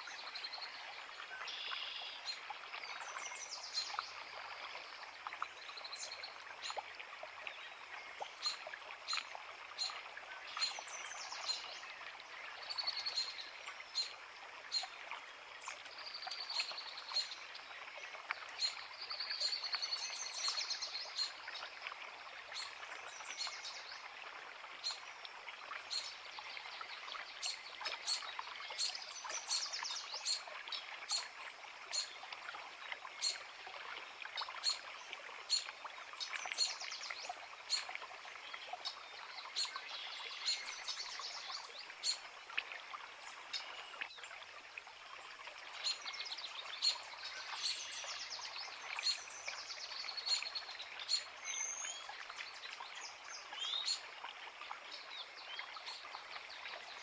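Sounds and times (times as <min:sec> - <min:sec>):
creek running: 0:00.0 - 0:57.0.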